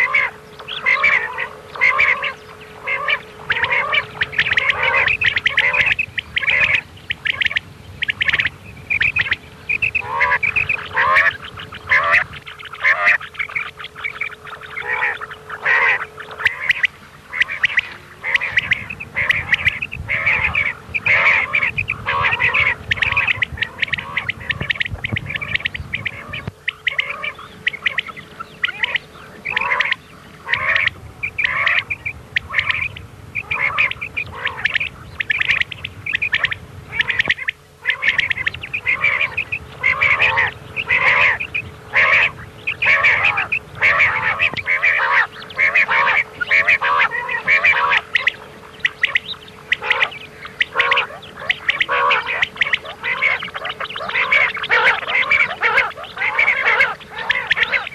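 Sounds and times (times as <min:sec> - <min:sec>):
faint steady hum: 0:00.0 - 0:57.9
quail chirping calls: 0:00.0 - 0:57.9.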